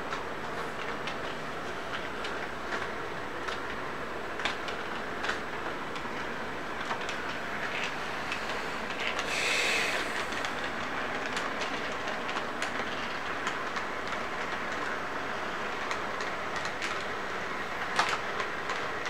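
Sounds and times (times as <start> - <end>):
model train rolling rumble: 0.0 - 19.0
wheels clicking over rail joints: 0.0 - 19.0.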